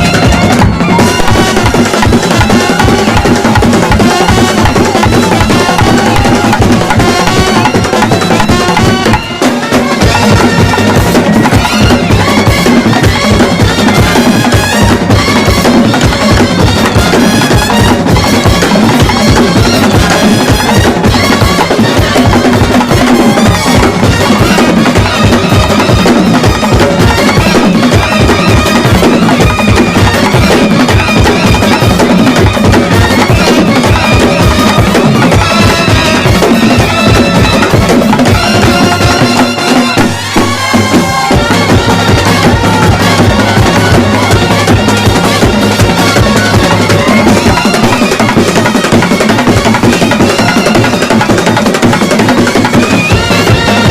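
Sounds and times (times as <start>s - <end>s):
brass band playing: 0.0s - 53.9s
drums beating fast rhythm: 0.0s - 53.9s.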